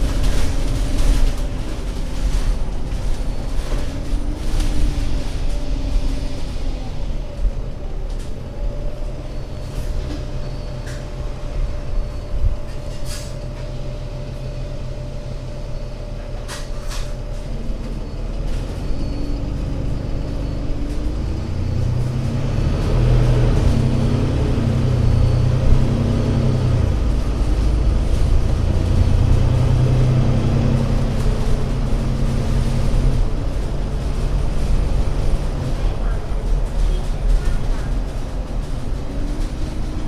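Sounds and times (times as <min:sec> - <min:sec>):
bus engine pulling away: 0:00.0 - 0:40.0.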